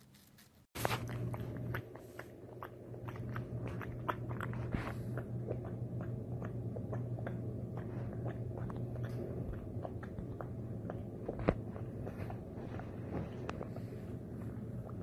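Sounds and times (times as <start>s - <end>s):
animal chewing crunches: 0.0s - 15.0s
steady low hum: 0.0s - 15.0s.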